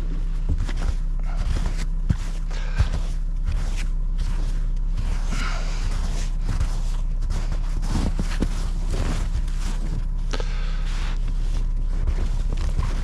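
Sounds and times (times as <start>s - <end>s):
vehicle engine humming: 0.0s - 13.0s
hand scooping wet snow: 0.1s - 13.0s.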